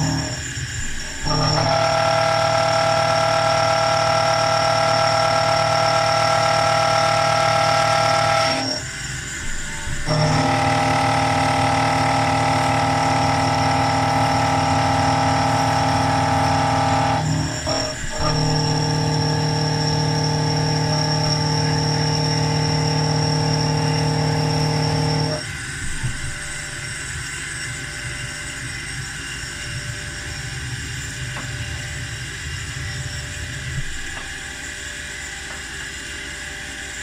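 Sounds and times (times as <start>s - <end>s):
milling machine motors whining: 0.0s - 37.0s.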